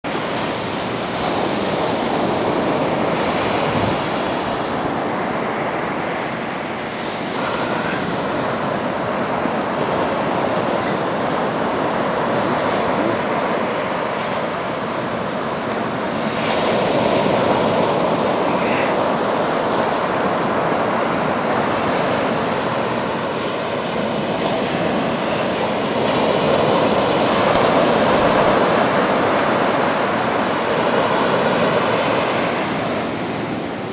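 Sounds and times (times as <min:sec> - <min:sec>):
surf breaking on beach: 0:00.1 - 0:33.9.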